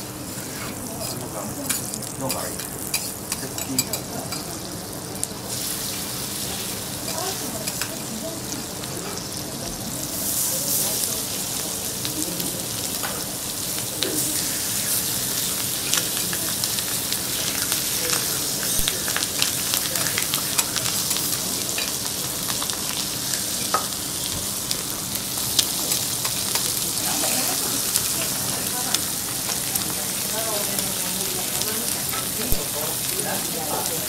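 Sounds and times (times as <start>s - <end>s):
meat sizzling on a griddle: 0.0s - 34.0s.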